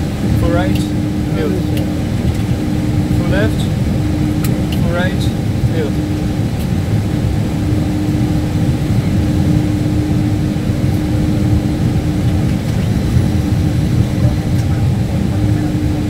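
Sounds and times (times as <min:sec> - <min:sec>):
aircraft engines rumbling: 0:00.0 - 0:16.0
steady hum: 0:00.0 - 0:16.0.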